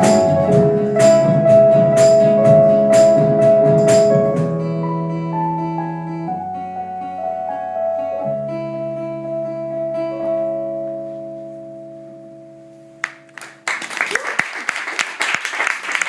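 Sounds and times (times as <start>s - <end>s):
guitar playing: 0.0s - 13.7s.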